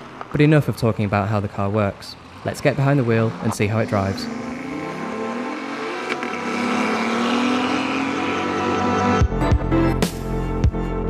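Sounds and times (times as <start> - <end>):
car engine driving away: 0.0 - 9.3.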